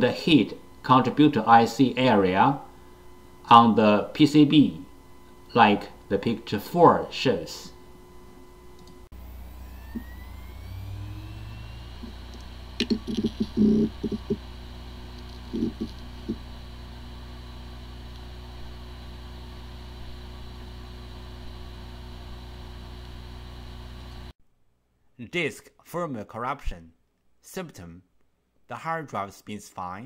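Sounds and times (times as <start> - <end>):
hard drive motor whine: 0.0 - 24.3
hard drive platters humming: 0.0 - 24.3.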